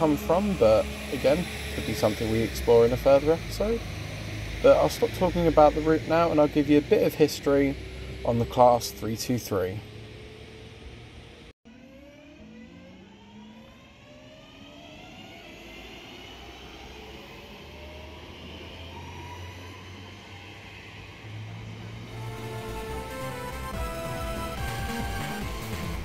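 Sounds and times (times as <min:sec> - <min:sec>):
low train rumble: 0:00.0 - 0:11.5, 0:15.2 - 0:26.0
electric train motors whining: 0:00.0 - 0:26.0.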